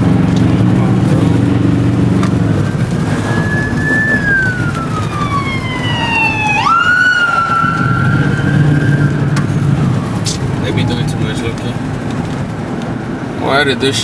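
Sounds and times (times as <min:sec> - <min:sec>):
siren wailing: 0:00.0 - 0:12.3
road noise drone: 0:00.0 - 0:14.0.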